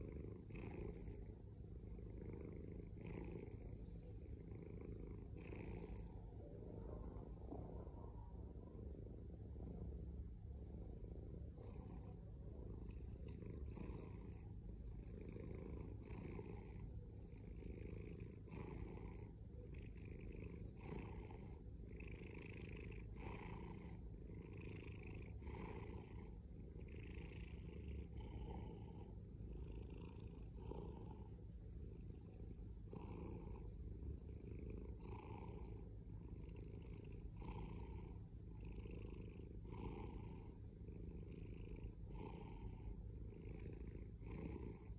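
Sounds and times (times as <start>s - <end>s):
cat purring loudly: 0.0s - 6.4s, 11.2s - 44.9s.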